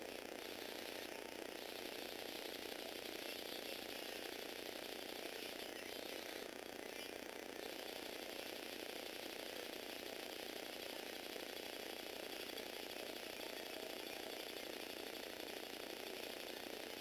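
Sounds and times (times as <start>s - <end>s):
fast gear rattle: 0.0s - 17.0s
toy motor running: 0.0s - 17.0s.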